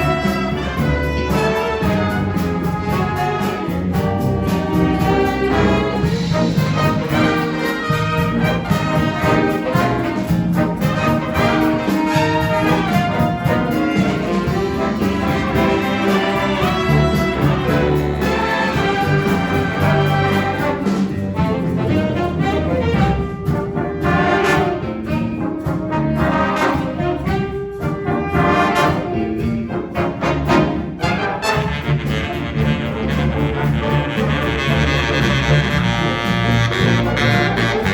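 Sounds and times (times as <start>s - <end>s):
jazz band playing: 0.0s - 37.9s.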